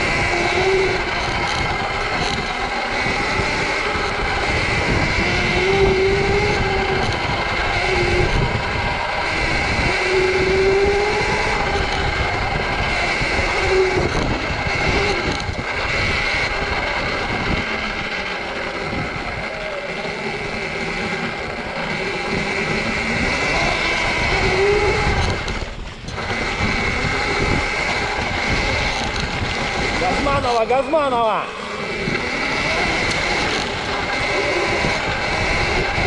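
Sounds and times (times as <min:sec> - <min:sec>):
electric motorbike motor whine: 0:00.0 - 0:36.0
wind and tyre noise: 0:00.0 - 0:36.0.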